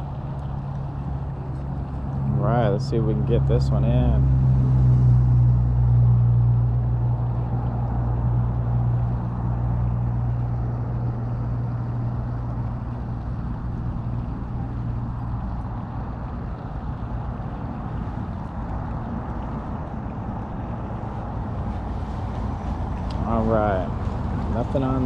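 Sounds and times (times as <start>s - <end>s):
traffic noise: 0.0s - 25.0s
vehicle engine low hum: 0.0s - 25.0s.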